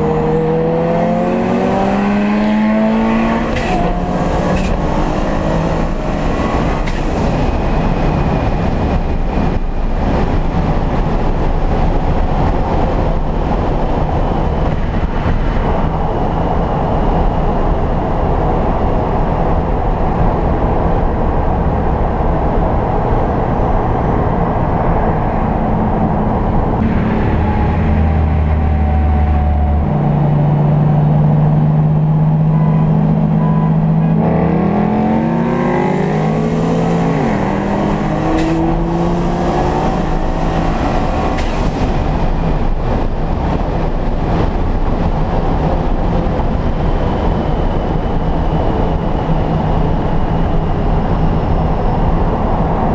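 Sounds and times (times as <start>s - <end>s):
car engine running hard: 0.0s - 52.9s
road noise inside car: 0.0s - 52.9s.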